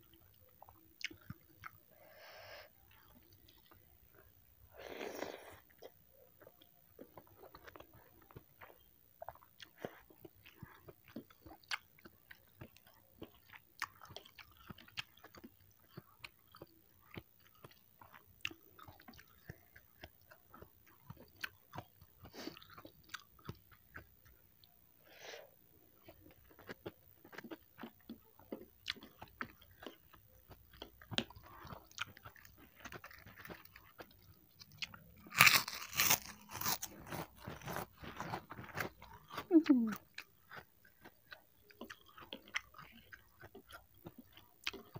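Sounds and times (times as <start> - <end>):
wet chewing: 5.5 - 24.7, 26.0 - 44.9.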